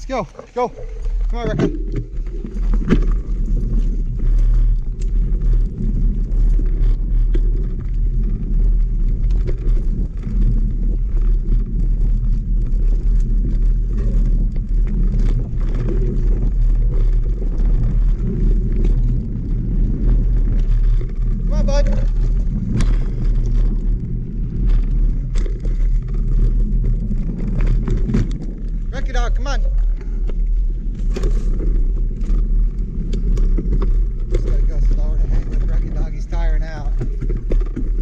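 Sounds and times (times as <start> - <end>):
bike rolling on dirt trail: 0.0 - 38.0.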